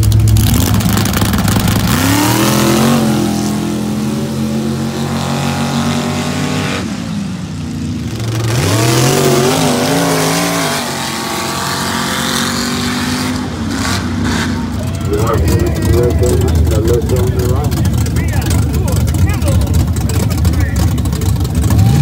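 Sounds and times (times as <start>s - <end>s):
truck engines revving at full throttle: 0.0s - 22.0s.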